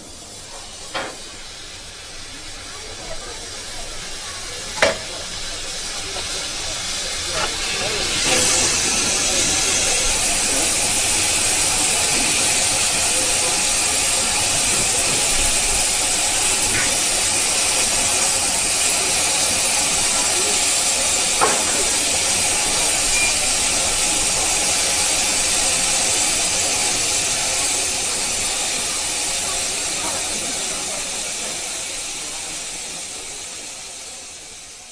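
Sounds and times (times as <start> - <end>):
steam hissing from locomotive: 0.0 - 34.9.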